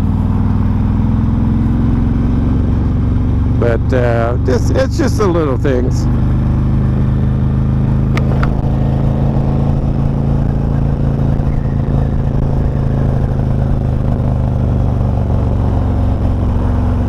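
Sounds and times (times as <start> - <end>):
motorcycle engine droning: 0.0 - 17.0
wind and road noise: 0.0 - 17.0.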